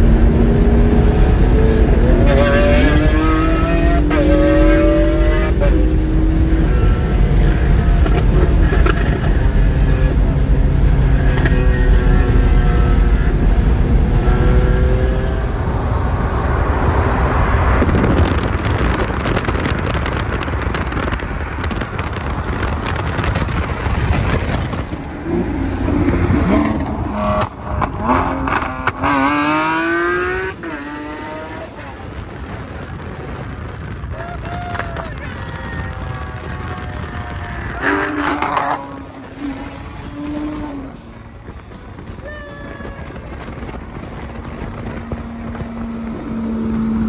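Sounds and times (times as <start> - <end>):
car engine accelerating hard: 0.0 - 34.1, 35.5 - 42.2, 43.0 - 47.0
rushing wind and road noise: 0.0 - 47.0.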